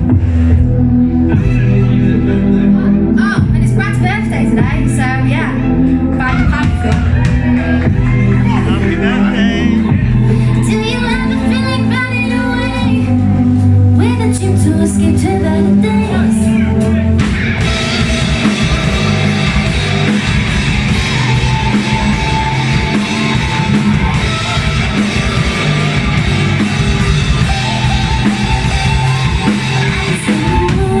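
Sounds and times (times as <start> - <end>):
live rock band playing: 0.0 - 31.0.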